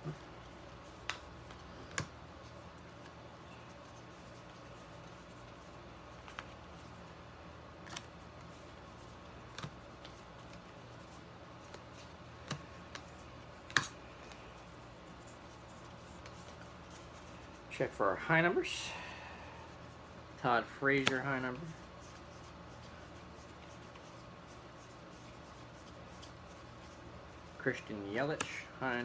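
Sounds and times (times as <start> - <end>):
cards clicking and rustling: 0.0 - 7.0, 7.8 - 17.7, 20.9 - 28.7
faint steady hum: 0.0 - 29.0.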